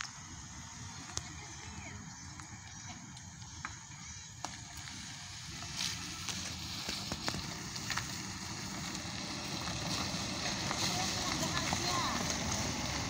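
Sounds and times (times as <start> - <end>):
tyres and wheels on gravel: 0.0 - 13.0.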